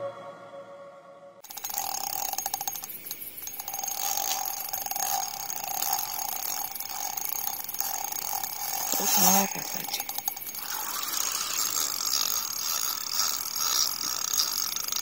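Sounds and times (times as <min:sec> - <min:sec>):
fishing reel clicking rapidly: 0:01.4 - 0:15.0.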